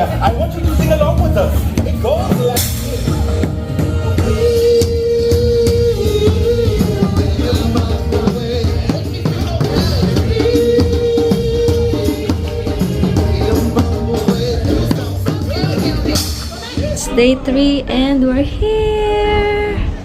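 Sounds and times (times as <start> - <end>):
backing track with drum beat: 0.0 - 20.0
person singing: 2.0 - 20.0.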